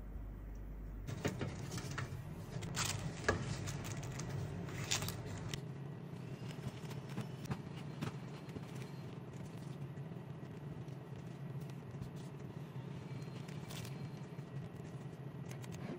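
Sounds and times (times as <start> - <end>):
steady low hum: 0.0 - 15.9
paper liners crinkling: 1.1 - 5.6, 6.2 - 15.9.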